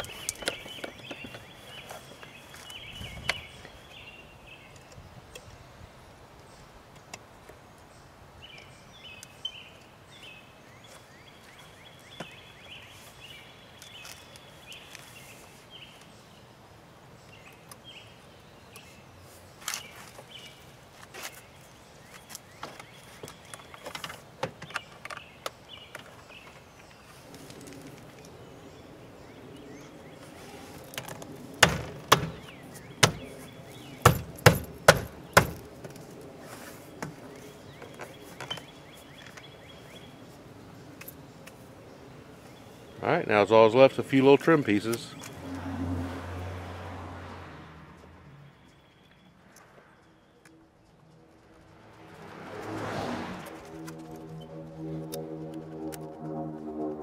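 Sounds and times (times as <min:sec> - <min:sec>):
birds chirping: 0:00.0 - 0:45.8, 0:47.8 - 0:56.4.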